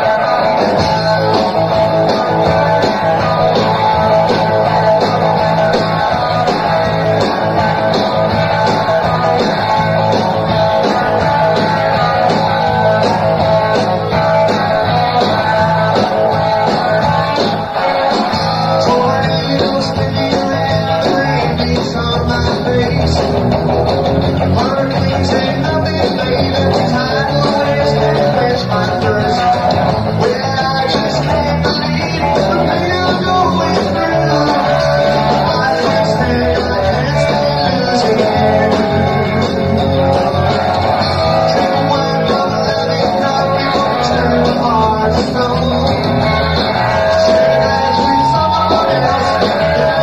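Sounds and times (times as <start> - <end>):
bass guitar: 0.0 - 50.0
drum beat: 0.0 - 50.0
electric guitar: 0.0 - 50.0.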